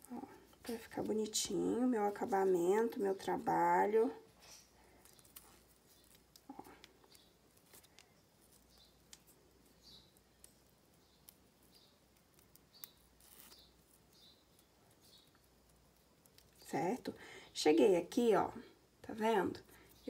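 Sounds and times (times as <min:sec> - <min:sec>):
ribbon rustling: 0:00.0 - 0:16.7.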